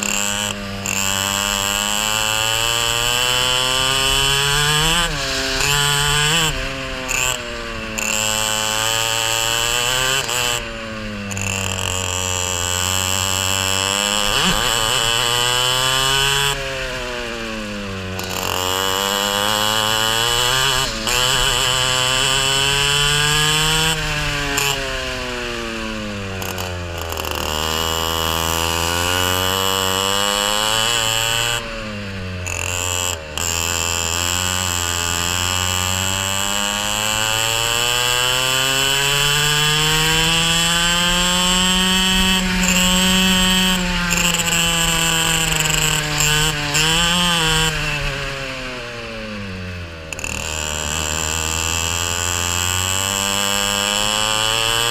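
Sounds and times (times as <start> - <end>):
racing kart engine revving: 0.0 - 54.9.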